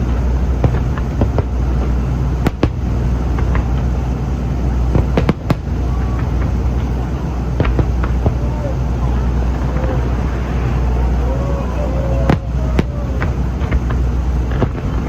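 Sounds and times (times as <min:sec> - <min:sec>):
fireworks bursting with sharp bangs: 0:00.0 - 0:15.0
steady low rumble: 0:00.0 - 0:15.0.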